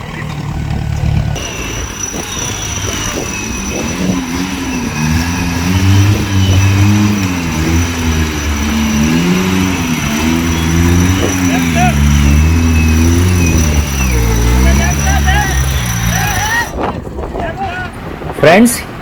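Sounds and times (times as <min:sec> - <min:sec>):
car engine revving: 0:00.0 - 0:16.8.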